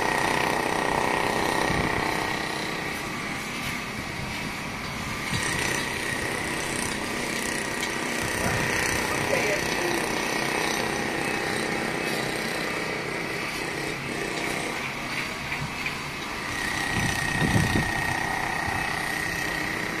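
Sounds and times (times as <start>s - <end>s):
city traffic hum: 0.0s - 20.0s.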